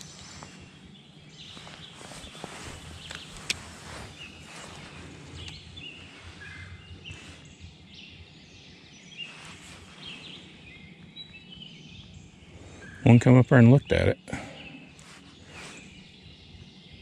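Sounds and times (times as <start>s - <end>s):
songbirds chirping: 0.0s - 17.0s
steady low hum: 0.0s - 17.0s.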